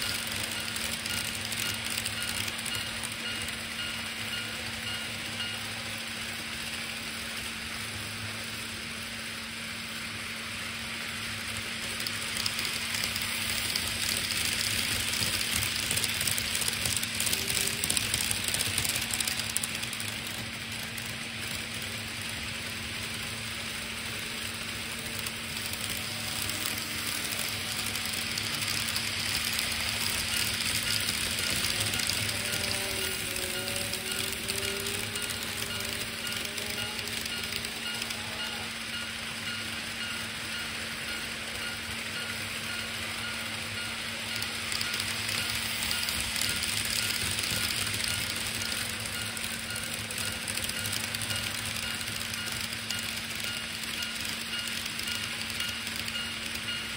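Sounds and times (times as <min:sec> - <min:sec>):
model trains rattling on track: 0:00.0 - 0:56.9.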